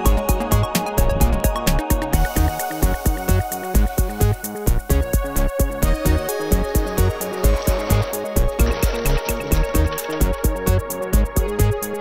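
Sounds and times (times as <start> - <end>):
electronic dance music: 2.2 - 11.8.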